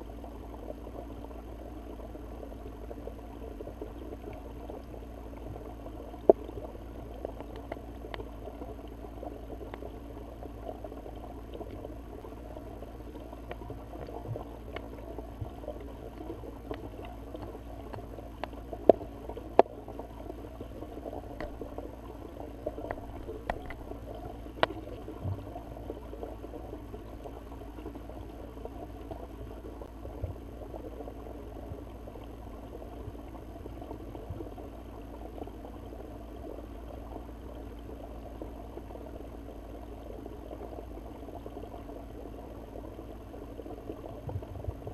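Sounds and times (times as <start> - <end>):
underwater rush of water: 0.0 - 44.9.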